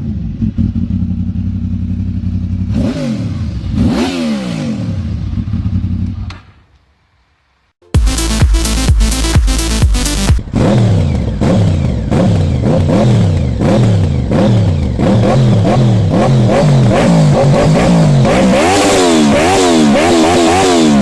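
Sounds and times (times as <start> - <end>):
motorcycle engine revving: 0.4 - 6.1, 9.1 - 21.0.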